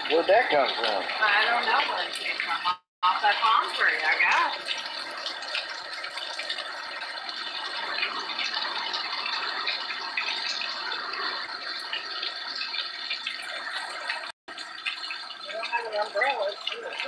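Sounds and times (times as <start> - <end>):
drips and splashes: 0.0 - 17.0.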